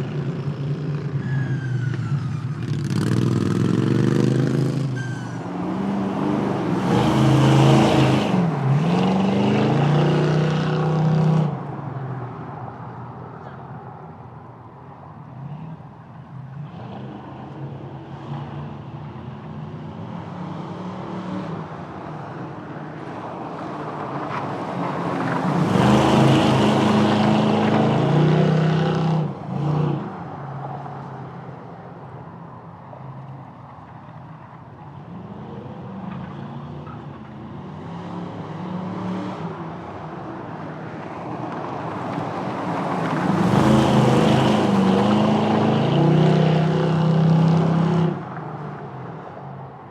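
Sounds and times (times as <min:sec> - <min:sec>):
car engines accelerating hard: 0:02.5 - 0:13.9, 0:15.2 - 0:49.8.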